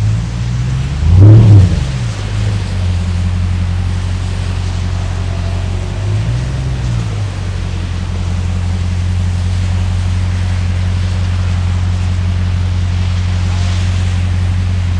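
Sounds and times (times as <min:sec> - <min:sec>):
air or road noise hiss: 0:00.0 - 0:14.9
truck engine droning: 0:00.0 - 0:14.9.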